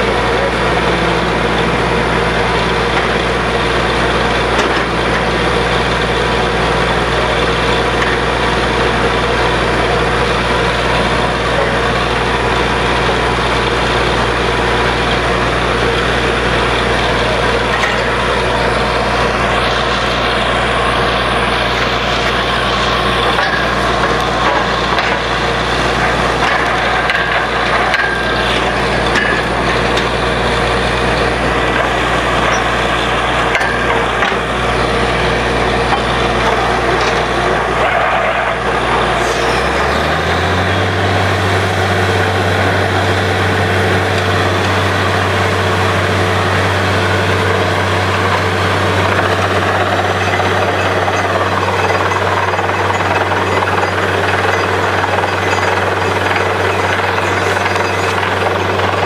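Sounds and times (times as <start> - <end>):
drilling machine hum: 0.0 - 59.0
rush of drilling noise: 0.0 - 59.0.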